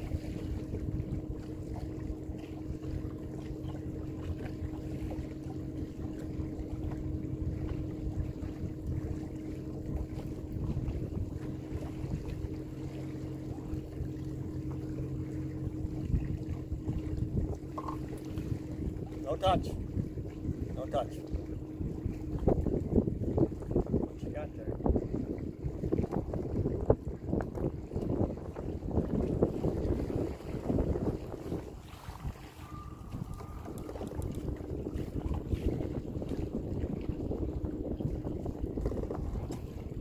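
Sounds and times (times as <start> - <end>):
boat motor humming: 0.0 - 40.0
wind buffeting microphone: 0.0 - 40.0.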